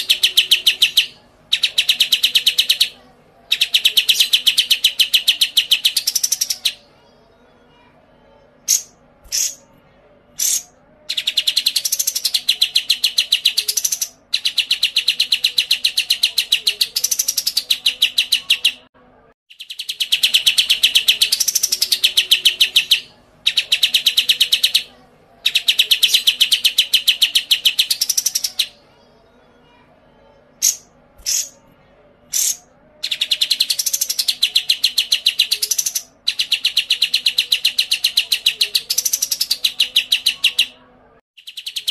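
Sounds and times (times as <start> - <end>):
bird chirps: 0.0 - 6.9, 8.7 - 9.6, 10.4 - 18.9, 19.5 - 28.8, 30.6 - 31.6, 32.3 - 40.8, 41.4 - 41.9.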